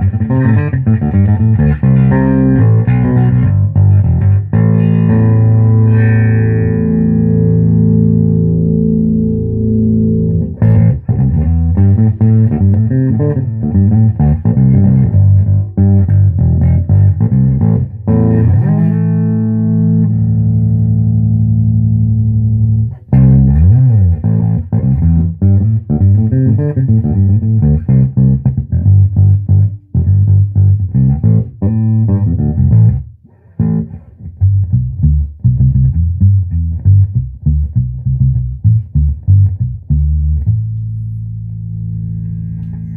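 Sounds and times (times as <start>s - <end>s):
bass guitar plucked notes: 0.0s - 42.9s.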